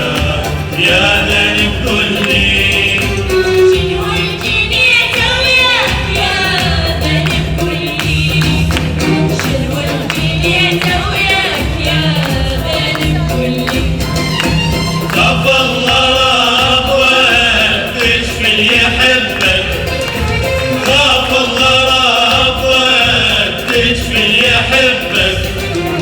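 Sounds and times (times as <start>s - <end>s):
group of voices singing: 0.0s - 26.0s
percussion: 0.0s - 26.0s.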